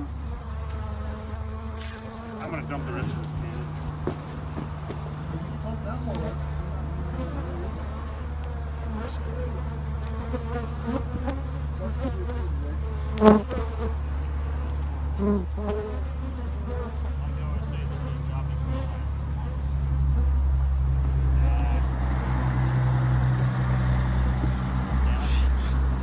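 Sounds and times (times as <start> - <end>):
bee flying past: 0.0 - 26.0
bees buzzing: 0.0 - 26.0.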